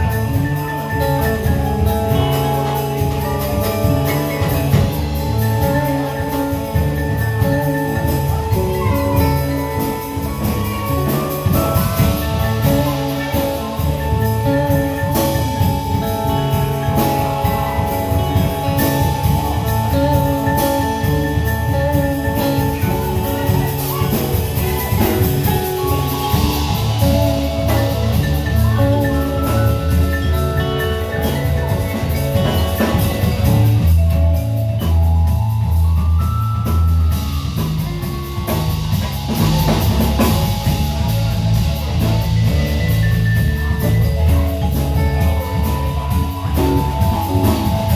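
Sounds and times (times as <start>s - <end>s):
drum kit: 0.0s - 47.9s
electric bass: 0.0s - 47.9s
electric guitar: 0.0s - 47.9s
vibraphone melody: 0.0s - 47.9s.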